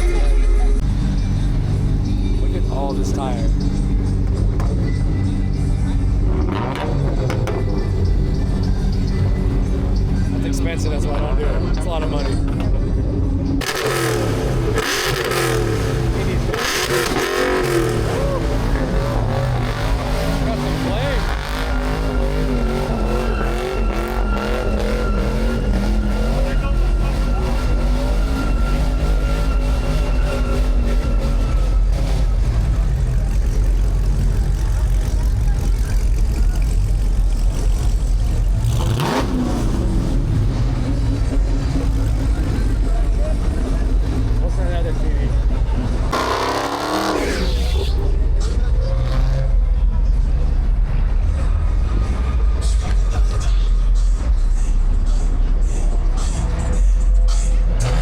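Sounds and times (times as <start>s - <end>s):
car engines revving: 0.0s - 58.0s
road noise: 0.0s - 58.0s.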